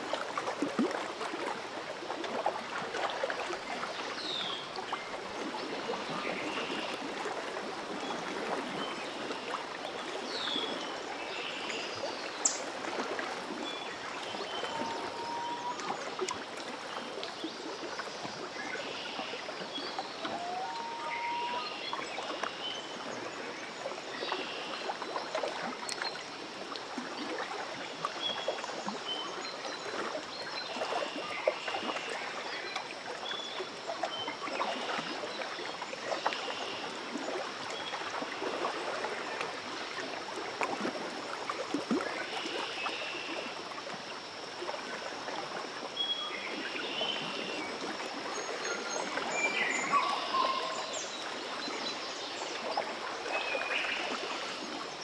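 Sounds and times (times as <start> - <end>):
water lapping at shore: 0.0 - 55.0.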